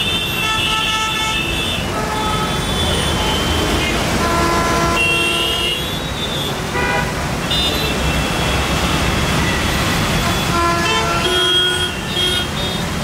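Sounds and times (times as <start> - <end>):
car horns honking: 0.0 - 13.0
traffic din: 0.0 - 13.0.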